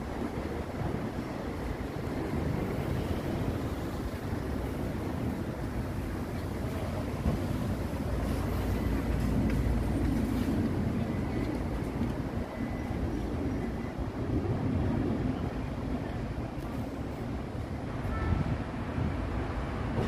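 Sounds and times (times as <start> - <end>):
monorail train rumbling: 0.0 - 20.0.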